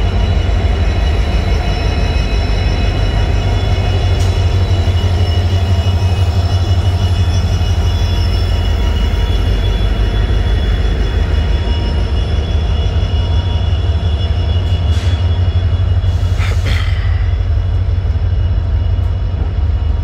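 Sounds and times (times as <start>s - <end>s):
diesel locomotives rumbling past: 0.0s - 20.0s
high-pitched engine whine: 0.0s - 20.0s.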